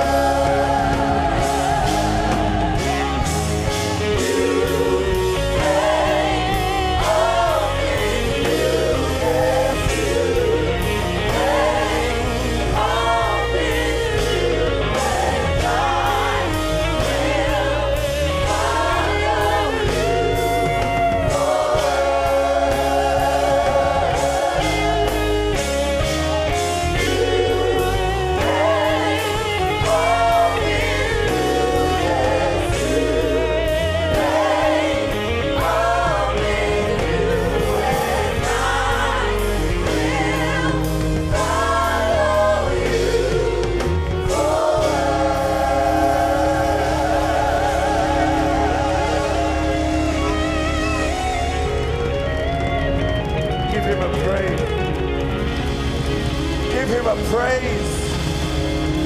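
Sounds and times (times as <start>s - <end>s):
choir singing in harmony: 0.0s - 54.0s
bass guitar: 0.0s - 59.0s
steady drum beat: 0.0s - 59.0s.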